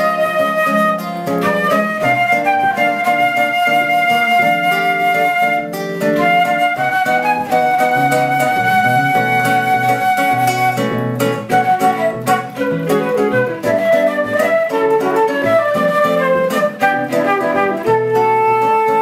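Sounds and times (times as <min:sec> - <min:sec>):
flute melody: 0:00.0 - 0:19.0
plucked guitar chords: 0:00.0 - 0:19.0.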